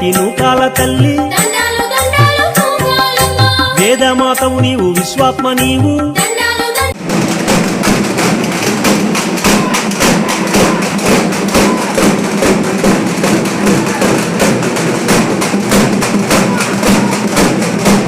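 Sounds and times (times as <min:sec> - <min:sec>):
rapid drum beats: 0:00.0 - 0:18.0.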